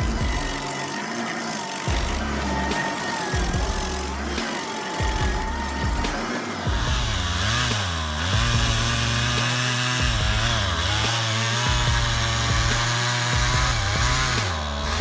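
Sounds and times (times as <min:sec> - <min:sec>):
machine engine running under load: 0:00.0 - 0:15.0.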